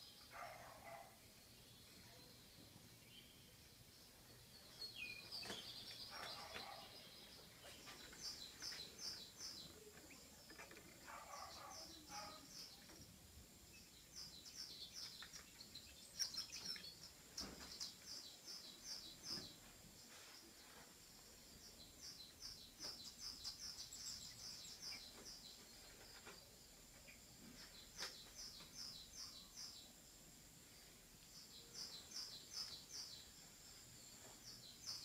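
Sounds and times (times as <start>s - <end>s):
recorded songbird chirps: 0.0s - 35.0s.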